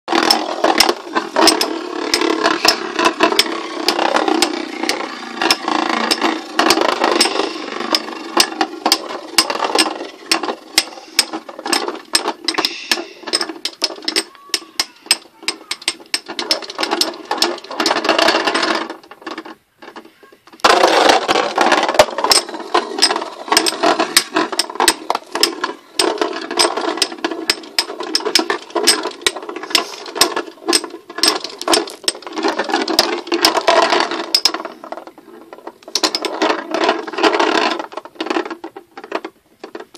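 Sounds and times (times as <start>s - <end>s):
spinning tops clacking together: 0.1s - 20.0s, 20.6s - 34.9s
spinning tops whirring: 0.1s - 20.0s, 20.6s - 38.7s.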